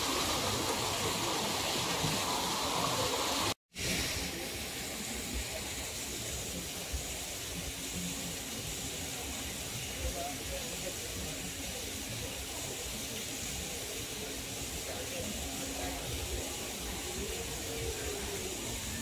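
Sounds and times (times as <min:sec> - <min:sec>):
running water: 0:00.0 - 0:19.0.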